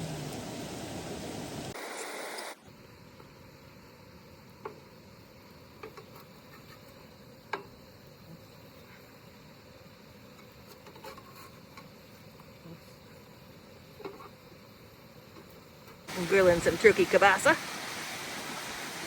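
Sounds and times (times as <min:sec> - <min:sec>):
sausage sizzling on a grill: 0:00.0 - 0:19.0.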